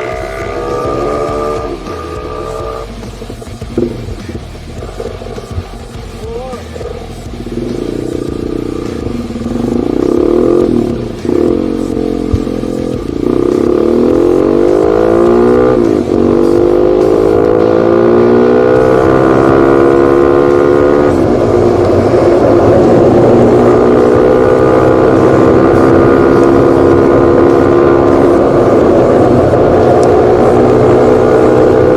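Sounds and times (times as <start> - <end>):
dirt bike engine accelerating: 0.0 - 31.9.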